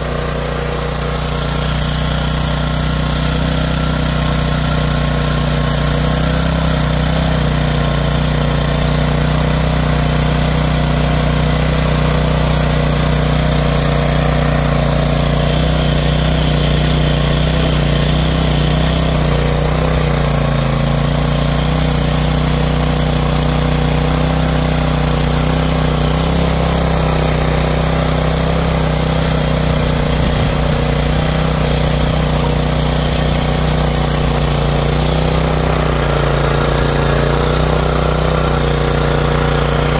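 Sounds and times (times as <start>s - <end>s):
small petrol engine running: 0.0s - 39.9s
tines churning stony soil: 0.0s - 39.9s.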